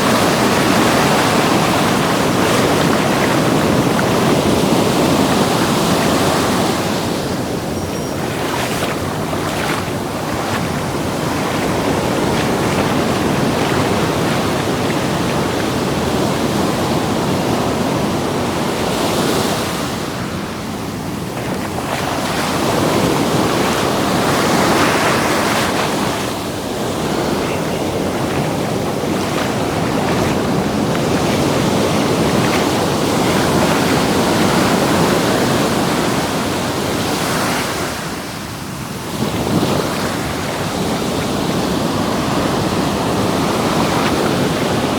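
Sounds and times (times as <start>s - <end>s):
waves breaking on sand: 0.0s - 44.9s
wind on microphone: 0.0s - 44.9s.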